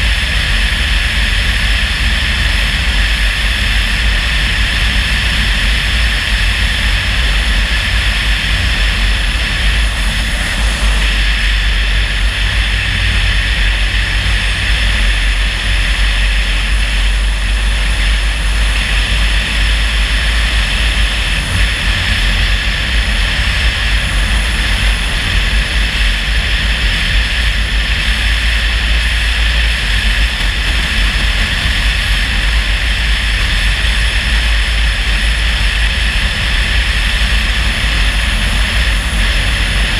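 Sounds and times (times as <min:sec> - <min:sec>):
car engine rumble: 0:00.0 - 0:39.9
road and wind noise: 0:00.0 - 0:39.9.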